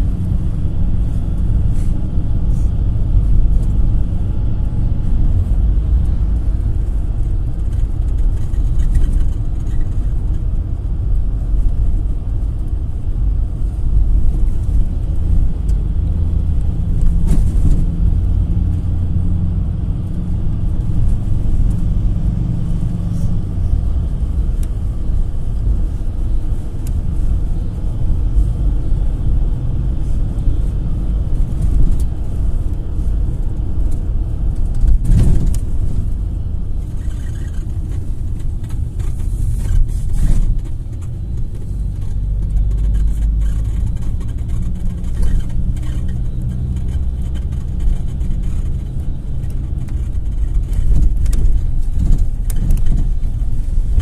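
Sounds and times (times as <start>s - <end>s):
minibus engine drone: 0.0s - 54.0s
road rumble: 0.0s - 54.0s.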